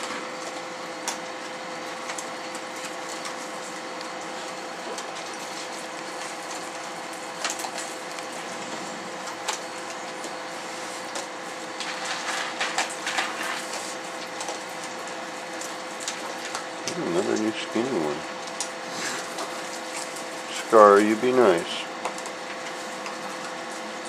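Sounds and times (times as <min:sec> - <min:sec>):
steady electrical hum: 0:00.0 - 0:24.0
animals crunching dry kibble: 0:00.4 - 0:24.0.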